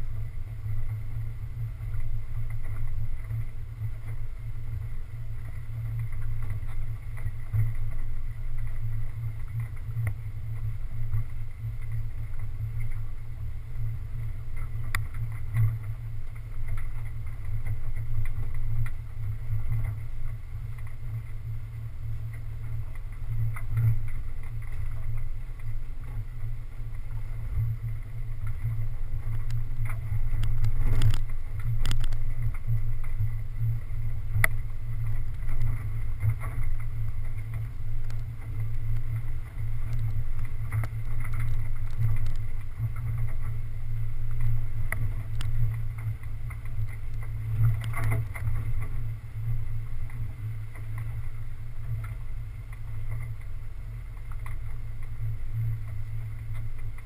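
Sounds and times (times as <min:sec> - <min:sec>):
off-road engine droning: 0:00.0 - 0:57.0.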